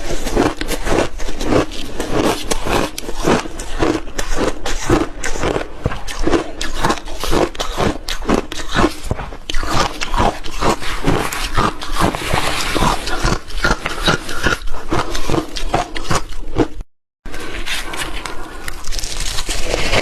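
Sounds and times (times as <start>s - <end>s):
shaved ice crunching while chewed: 0.0s - 20.0s.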